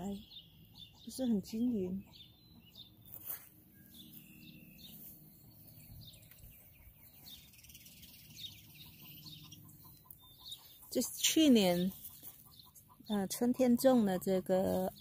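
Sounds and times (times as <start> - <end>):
distant birds calling: 0.0 - 15.0.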